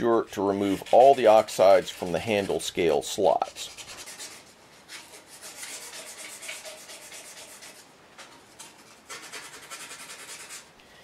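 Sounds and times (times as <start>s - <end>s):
hand-sanding strokes on steel: 0.2s - 7.9s, 8.6s - 10.7s.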